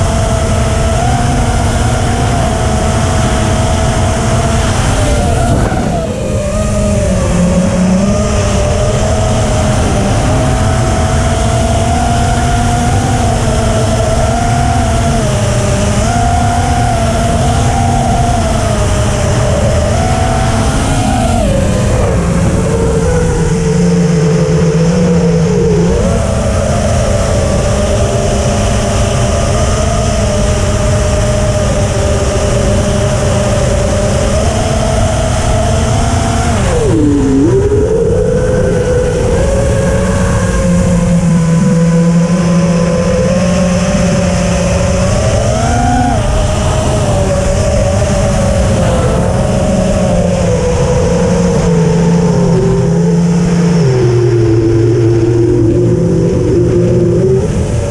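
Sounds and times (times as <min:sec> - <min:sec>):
drone motors buzzing: 0:00.0 - 0:57.9.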